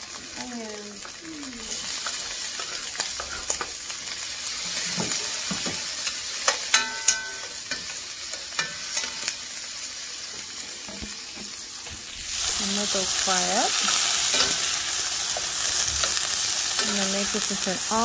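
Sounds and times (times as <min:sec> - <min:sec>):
vegetables sizzling in a frying pan: 0:00.0 - 0:18.0.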